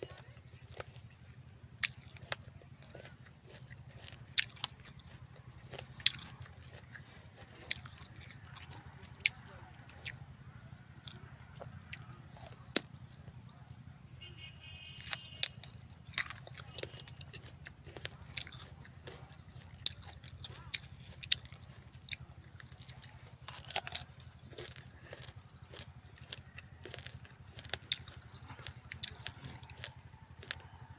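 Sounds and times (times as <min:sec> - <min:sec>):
person crunching fruit: 0:00.0 - 0:13.9, 0:14.6 - 0:30.9
steady low hum: 0:00.0 - 0:30.9.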